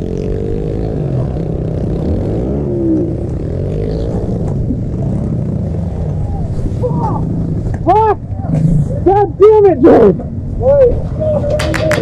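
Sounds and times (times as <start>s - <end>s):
pit bike engine revving: 0.0s - 10.6s.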